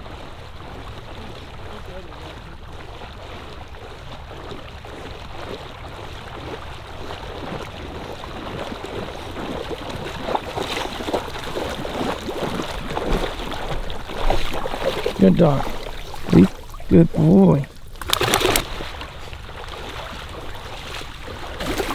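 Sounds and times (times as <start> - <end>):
dog splashing through water: 0.0 - 21.9.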